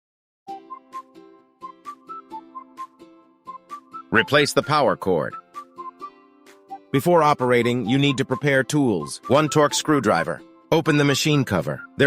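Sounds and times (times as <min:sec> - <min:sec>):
music with light percussive beat: 0:00.5 - 0:12.0.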